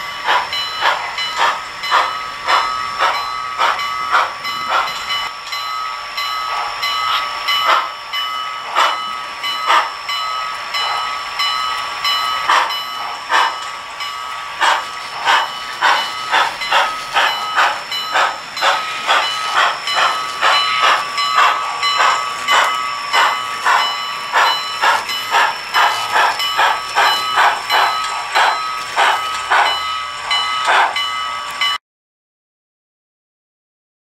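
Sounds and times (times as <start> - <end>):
model steam locomotive chuffing: 0.0 - 31.8.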